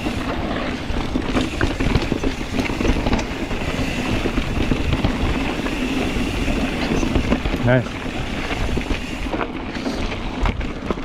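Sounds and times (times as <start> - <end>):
bike rattling: 0.0 - 11.0
bike tyres on dirt trail: 0.0 - 11.0.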